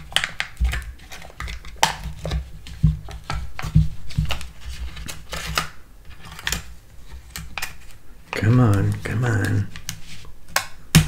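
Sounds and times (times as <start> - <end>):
plastic and foil lid crackling: 0.0 - 11.0.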